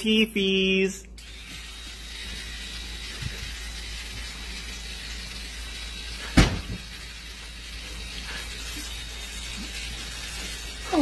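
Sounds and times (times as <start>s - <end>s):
electric toothbrush buzzing: 0.0s - 11.0s.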